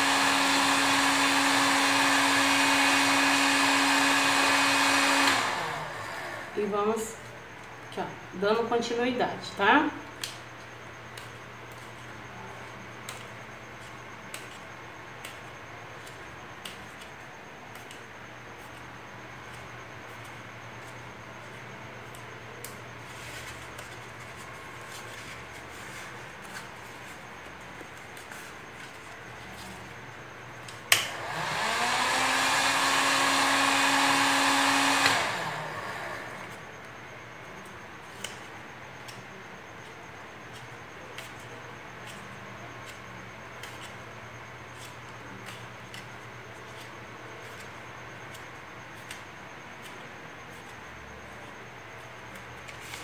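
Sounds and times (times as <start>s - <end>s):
heat gun fan whine: 0.0s - 53.0s.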